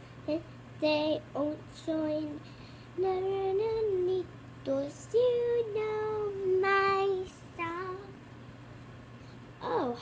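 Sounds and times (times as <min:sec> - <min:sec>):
young girl singing: 0:00.2 - 0:08.2, 0:09.6 - 0:10.0.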